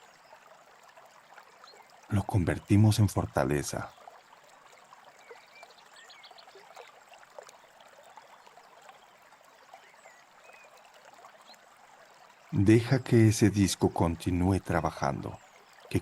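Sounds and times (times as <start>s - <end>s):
faint babbling stream: 0.0s - 16.0s.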